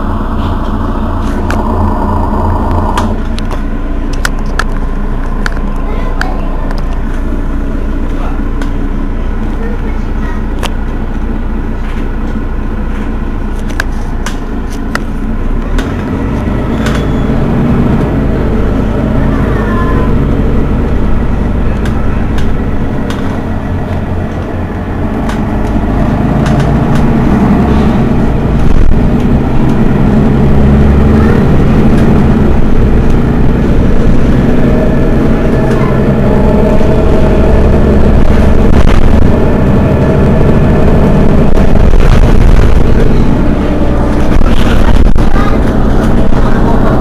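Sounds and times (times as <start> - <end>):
bus engine idling: 0.0 - 47.0.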